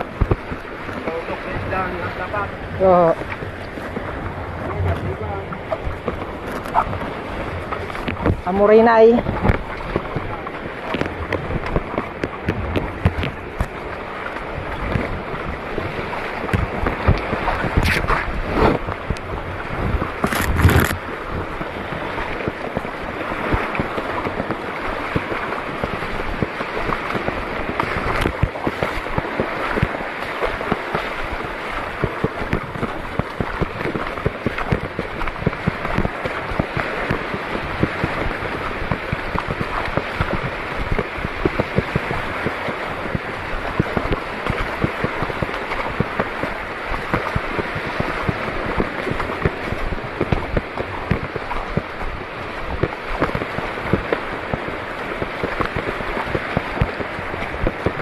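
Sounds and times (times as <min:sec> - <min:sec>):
sea water sloshing and splashing: 0:00.0 - 0:58.0
wind buffeting microphone: 0:00.0 - 0:58.0.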